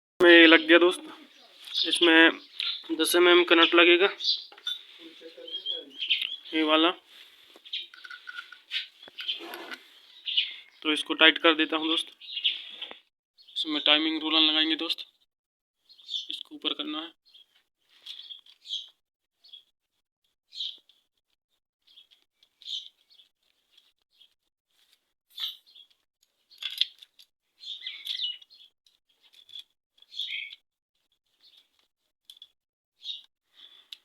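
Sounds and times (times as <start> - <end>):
small birds chirping: 0.2 - 15.2, 15.8 - 19.7, 20.5 - 21.0, 21.8 - 24.4, 25.3 - 31.8, 32.4 - 34.0.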